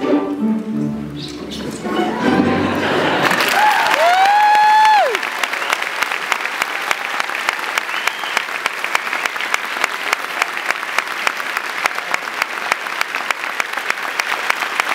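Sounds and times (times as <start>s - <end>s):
audience applauding: 2.6s - 14.9s.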